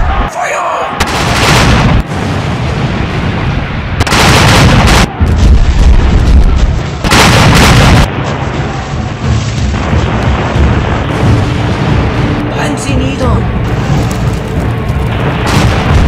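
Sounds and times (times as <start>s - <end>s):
cannon blasts: 0.9s - 12.8s, 13.6s - 16.0s
deep rumbling: 1.0s - 16.0s.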